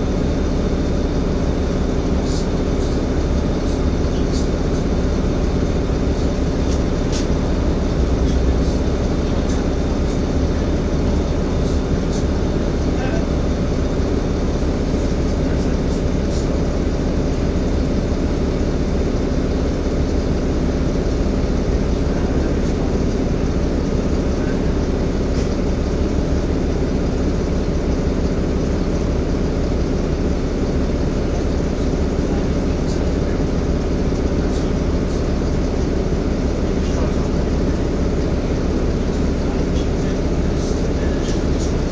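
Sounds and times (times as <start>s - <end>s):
bus engine drone: 0.0s - 41.9s.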